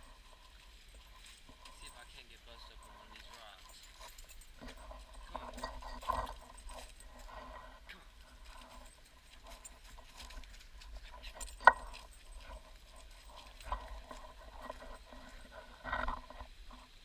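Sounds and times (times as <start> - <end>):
footsteps on a trail: 0.0 - 16.8.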